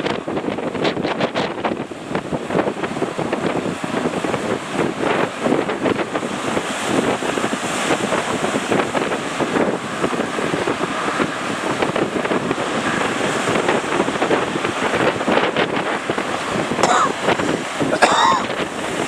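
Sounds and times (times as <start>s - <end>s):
surf: 0.0s - 19.0s
wind buffeting microphone: 0.0s - 19.0s.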